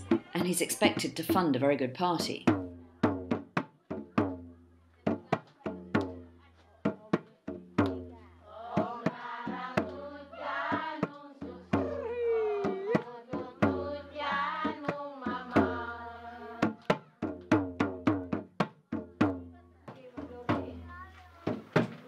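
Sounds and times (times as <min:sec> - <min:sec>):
hand drum beaten with palms: 0:00.0 - 0:22.0.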